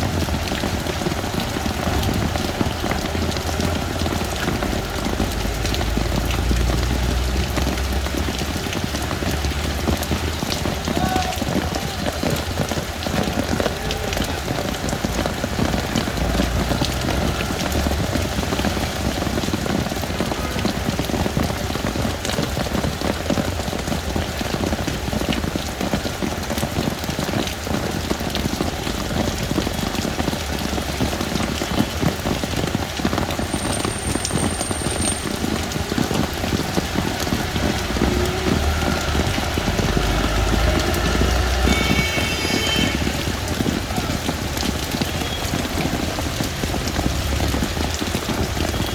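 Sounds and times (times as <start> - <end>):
heavy rain on hard surfaces: 0.0 - 48.9.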